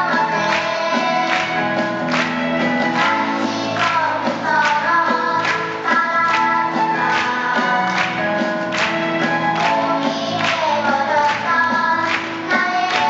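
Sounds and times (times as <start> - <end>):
instrumental music with steady beat: 0.0 - 13.0
voices singing together: 0.0 - 13.0.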